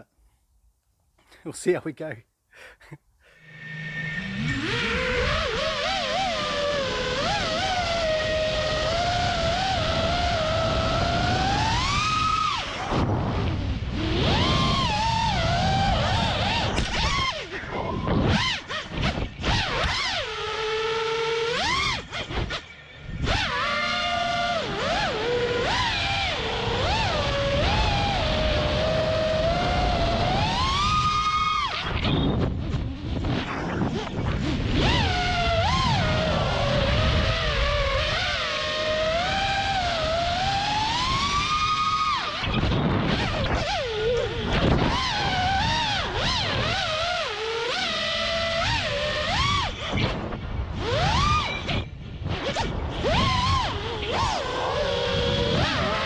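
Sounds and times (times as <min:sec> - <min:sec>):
quadcopter motors whining: 0:03.2 - 0:56.0
wind noise: 0:03.4 - 0:56.0.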